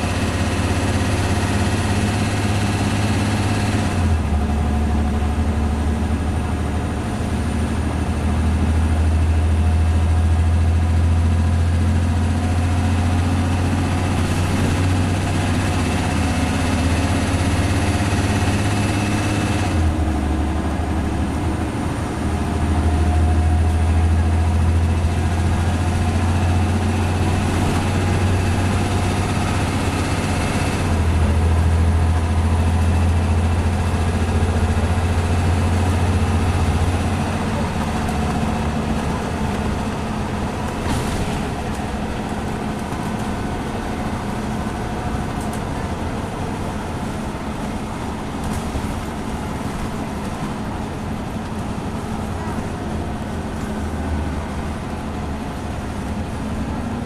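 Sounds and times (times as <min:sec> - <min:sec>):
bus engine droning: 0:00.0 - 0:57.0
road and tyre noise: 0:00.0 - 0:57.0.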